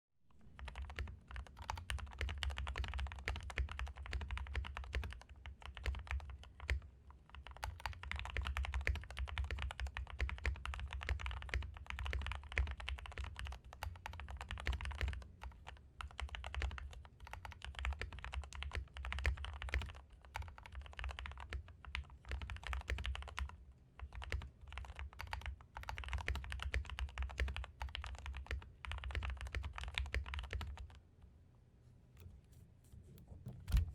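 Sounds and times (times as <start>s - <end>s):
mechanical keyboard typing: 0.6s - 31.0s.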